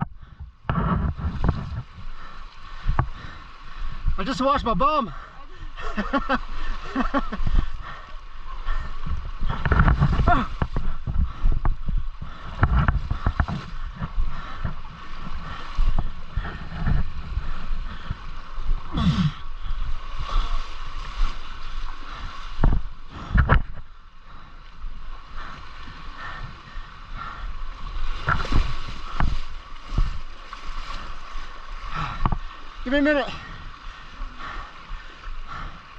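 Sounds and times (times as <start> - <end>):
river water rushing and gurgling: 0.0 - 35.9.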